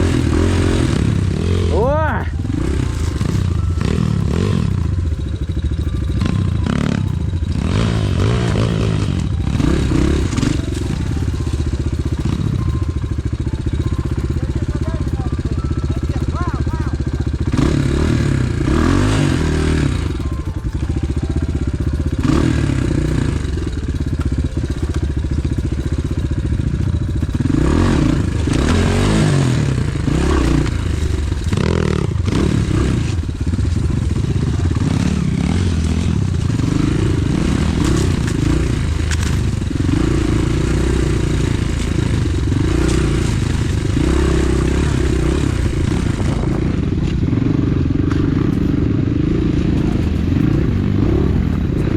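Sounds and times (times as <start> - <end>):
pit bike engine revving: 0.0 - 51.9
knocks and clatter: 2.3 - 51.9.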